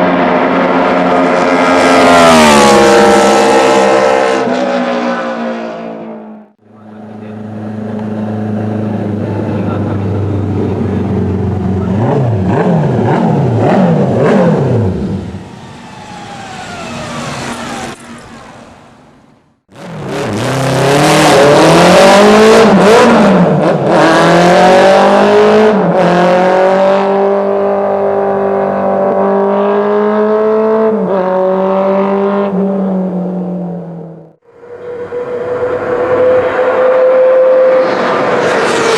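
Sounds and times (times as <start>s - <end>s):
motorcycle engine revving: 0.3s - 32.6s.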